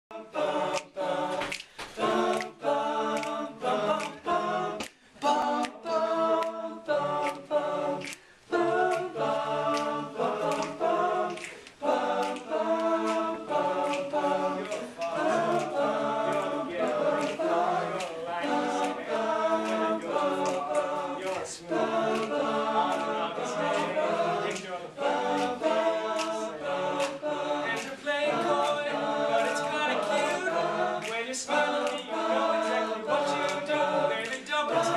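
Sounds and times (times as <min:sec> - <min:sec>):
male a cappella group singing: 0:00.1 - 0:34.9.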